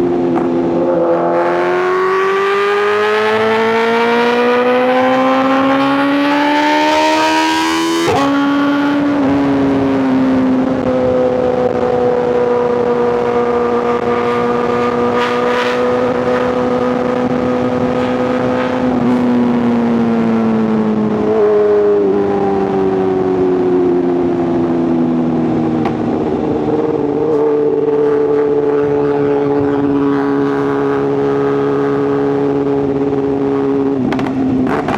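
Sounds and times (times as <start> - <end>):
motorcycle engine and exhaust: 0.0 - 34.9.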